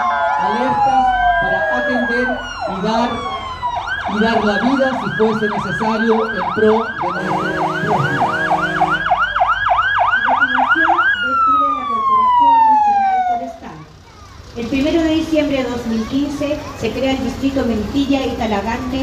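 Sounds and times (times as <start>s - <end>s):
emergency vehicle siren: 0.0s - 19.0s.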